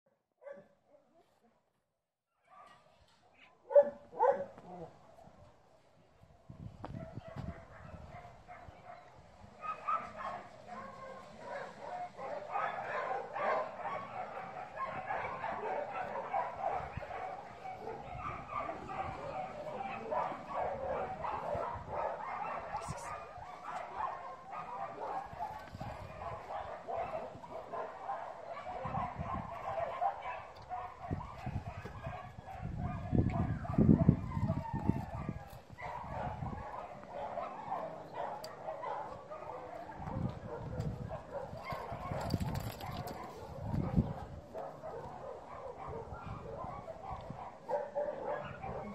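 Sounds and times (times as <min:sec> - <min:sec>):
dogs barking and yipping: 0:03.7 - 0:04.8, 0:07.0 - 0:48.9.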